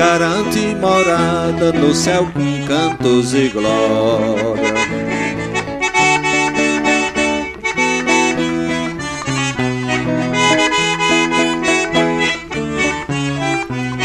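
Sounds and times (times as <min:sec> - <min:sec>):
piano accordion playing: 0:00.0 - 0:14.0.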